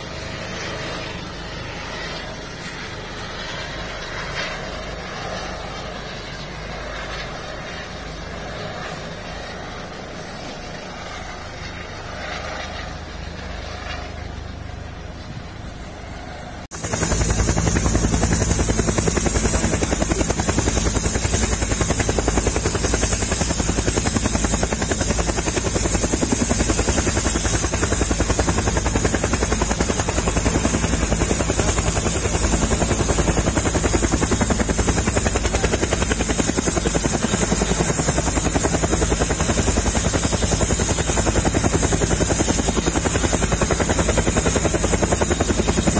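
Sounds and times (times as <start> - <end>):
helicopter rotor beat: 0.0 - 45.9
turbine whine: 0.0 - 45.9.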